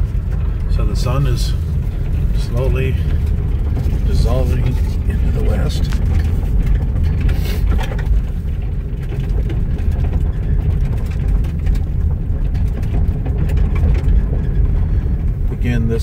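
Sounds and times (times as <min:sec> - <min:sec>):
car driving rumble from inside: 0:00.0 - 0:16.0.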